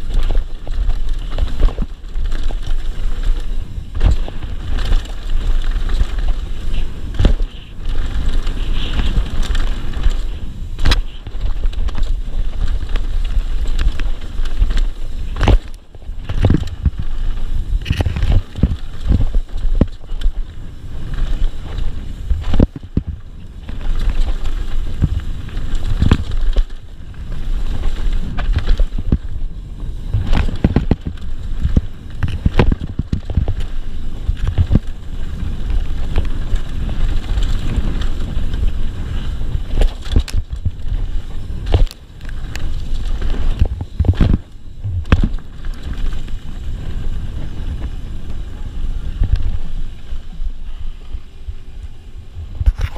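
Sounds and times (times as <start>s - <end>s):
tyres rumbling over dirt: 0.0s - 52.9s
wind buffeting microphone: 0.0s - 52.9s.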